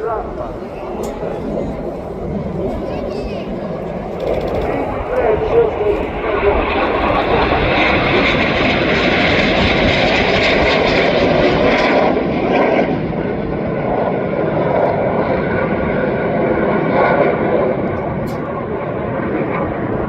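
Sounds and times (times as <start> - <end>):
aircraft engines rushing: 0.0 - 20.0.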